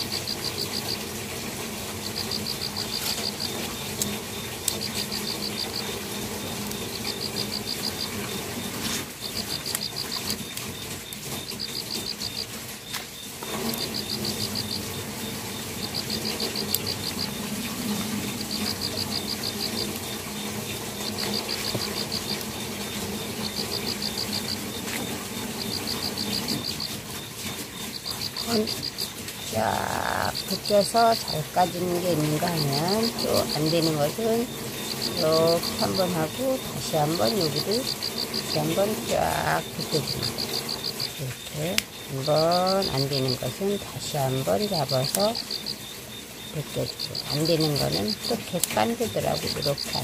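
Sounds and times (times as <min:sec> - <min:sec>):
insect chirping in pulsed trills: 0:00.0 - 0:50.0.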